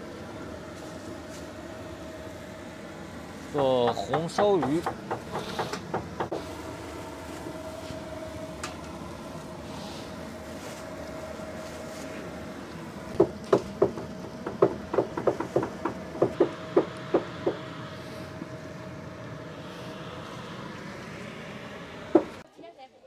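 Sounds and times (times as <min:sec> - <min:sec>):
blower fan humming: 0:00.0 - 0:22.5.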